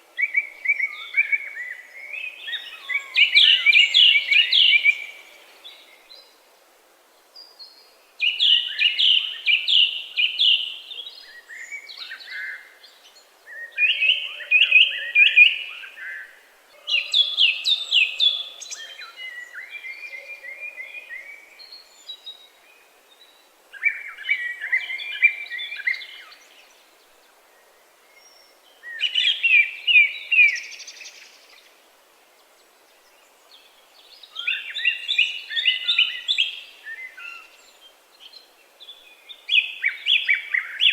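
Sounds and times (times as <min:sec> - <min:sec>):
songbird singing: 0:00.0 - 0:06.5, 0:07.1 - 0:40.9.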